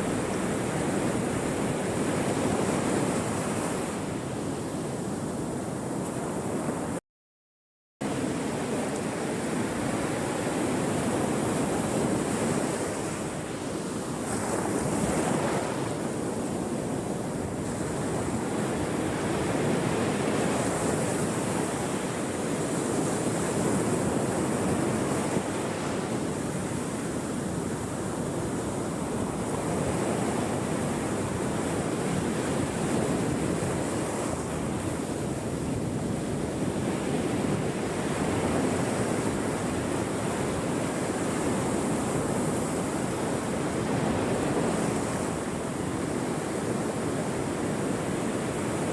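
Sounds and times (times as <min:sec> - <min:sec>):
wind noise: 0:00.0 - 0:07.0, 0:08.0 - 0:48.9.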